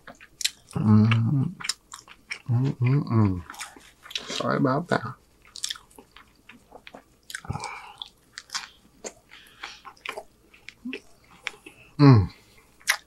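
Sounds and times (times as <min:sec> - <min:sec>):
wet chewing and mouth smacks: 0:00.0 - 0:04.6, 0:05.4 - 0:11.8, 0:12.7 - 0:13.0.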